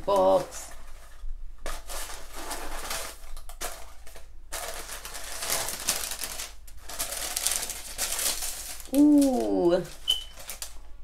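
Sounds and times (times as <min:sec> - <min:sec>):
tissue paper rustling and crinkling: 0:00.0 - 0:10.9.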